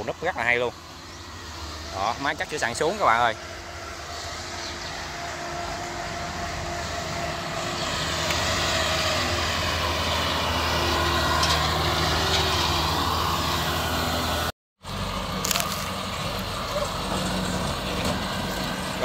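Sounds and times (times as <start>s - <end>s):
combine harvester diesel engine: 0.0s - 19.0s.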